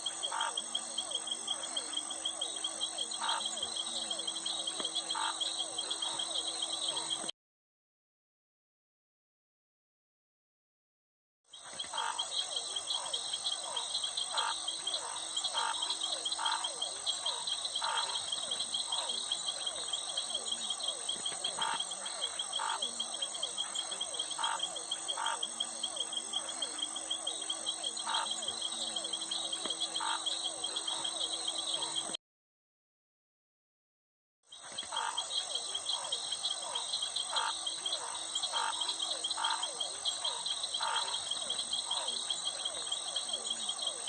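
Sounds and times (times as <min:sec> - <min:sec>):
crickets and insects chorus: 0:00.0 - 0:07.3, 0:11.5 - 0:32.2, 0:34.5 - 0:44.0
frogs croaking: 0:00.0 - 0:07.3, 0:11.5 - 0:32.2, 0:34.5 - 0:44.0.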